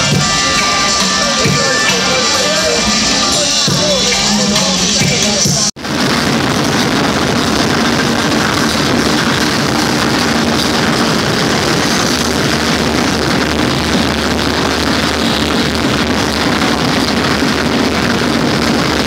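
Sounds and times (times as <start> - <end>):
loud rave music: 0.0 - 19.0.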